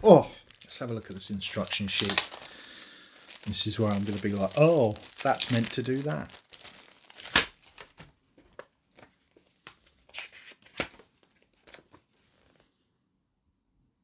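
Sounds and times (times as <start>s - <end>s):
paper rustling: 0.4s - 12.7s.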